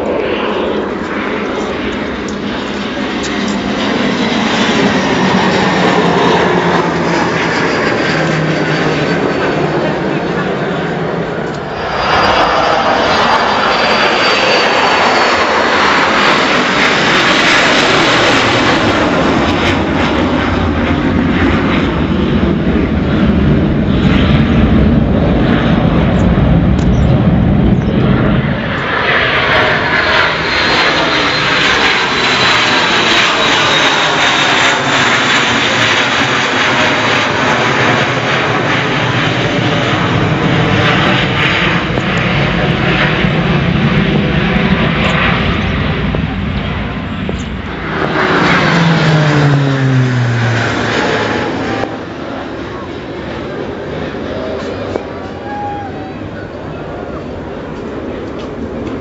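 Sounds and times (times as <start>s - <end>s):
jet engines roaring on take-off: 0.0s - 59.0s
jet high whine falling in pitch: 0.0s - 59.0s.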